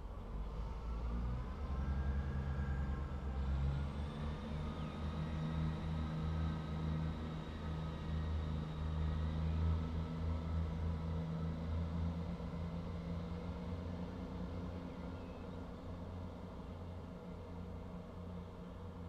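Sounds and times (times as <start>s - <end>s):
diesel train engines droning: 0.0s - 19.0s.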